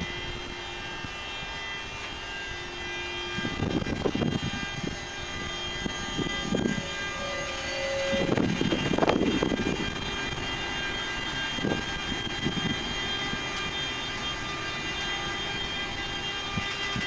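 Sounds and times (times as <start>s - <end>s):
electric locomotive inverter whine: 0.0s - 17.0s.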